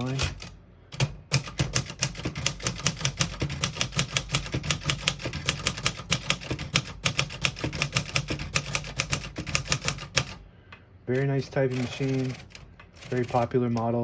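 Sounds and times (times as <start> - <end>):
manual typewriter typing: 0.0 - 10.4, 11.1 - 14.0.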